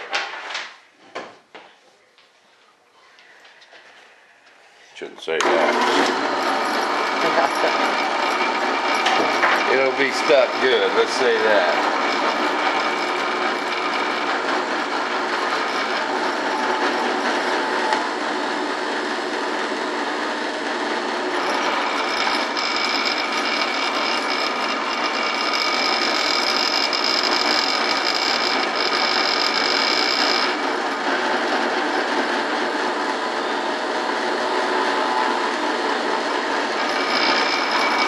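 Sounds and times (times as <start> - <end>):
drill press motor running: 5.4 - 38.0
high whine of drill bit: 5.4 - 38.0.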